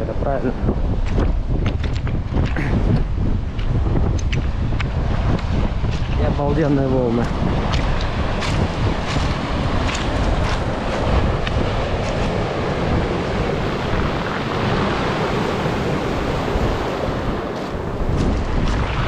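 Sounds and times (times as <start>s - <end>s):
wind rumbling on microphone: 0.0s - 19.0s
surf breaking on shore: 1.8s - 19.0s.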